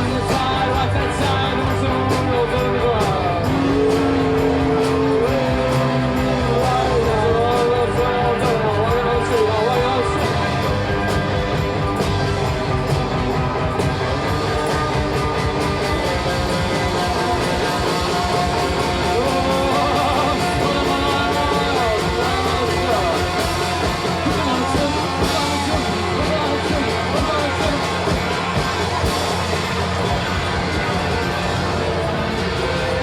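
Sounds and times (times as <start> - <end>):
bass guitar: 0.0 - 33.0
bending lead guitar lines: 0.0 - 33.0
drums: 0.0 - 33.0
electric guitars: 0.0 - 33.0.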